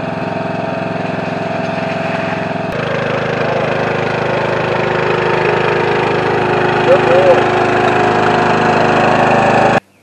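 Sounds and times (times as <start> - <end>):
lawn mower engine running: 0.0 - 9.8.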